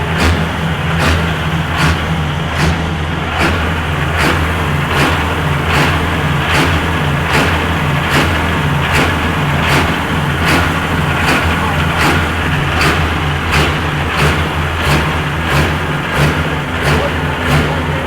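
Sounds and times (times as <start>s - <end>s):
engine running with sharp pulse: 0.0s - 18.0s.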